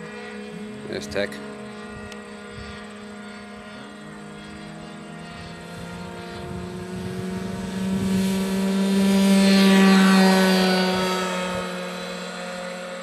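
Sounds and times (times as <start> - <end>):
model airplane motor and propeller: 0.0 - 13.0.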